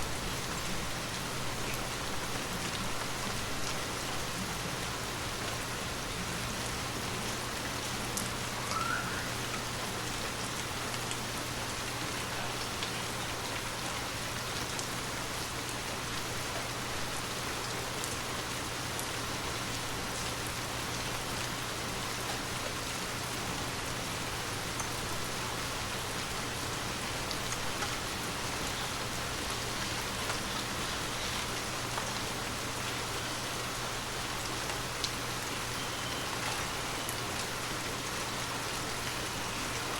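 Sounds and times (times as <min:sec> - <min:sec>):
gentle rain falling: 0:00.0 - 0:39.9
sharp ticks of raindrops: 0:00.0 - 0:39.9.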